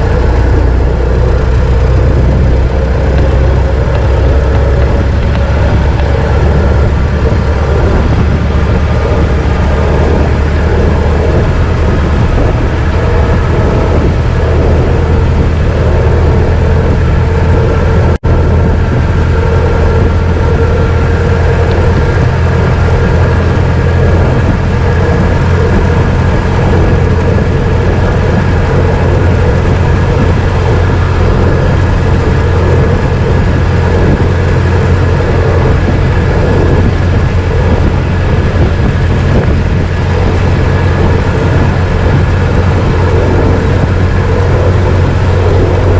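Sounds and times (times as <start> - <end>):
car engine droning: 0.0 - 45.9.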